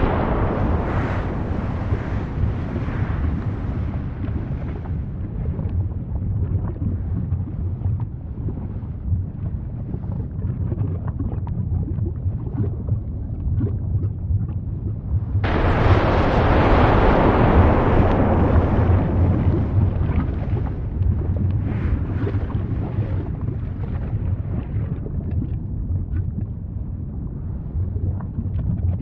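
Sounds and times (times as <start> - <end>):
small crackles and pops: 0.0 - 26.6, 28.0 - 29.0
deep volcanic rumble: 0.0 - 29.0.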